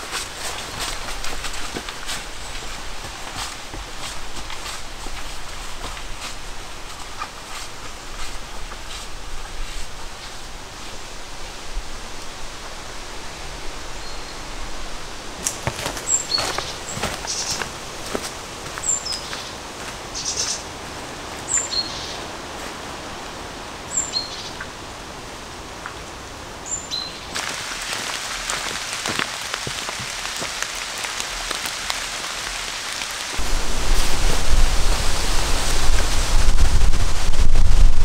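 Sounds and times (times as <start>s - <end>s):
rain falling: 0.0s - 38.0s
steady hiss: 0.0s - 38.0s.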